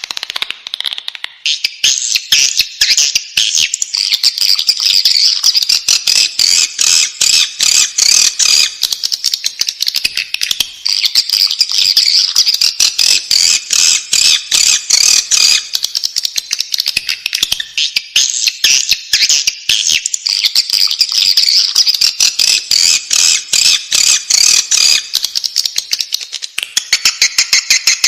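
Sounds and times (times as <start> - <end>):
bird chicks chirping: 0.0 - 28.0.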